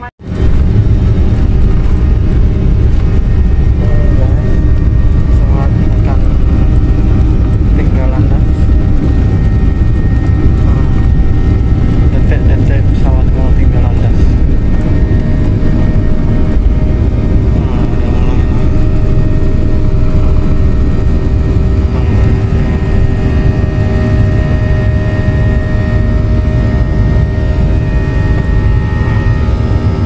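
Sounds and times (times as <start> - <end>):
high engine whine: 0.0 - 30.0
jet engines rumbling with whine: 0.0 - 30.0.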